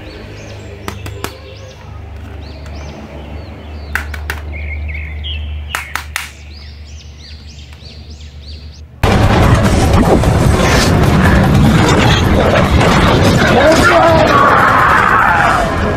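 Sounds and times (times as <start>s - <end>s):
low hum: 0.0s - 15.9s.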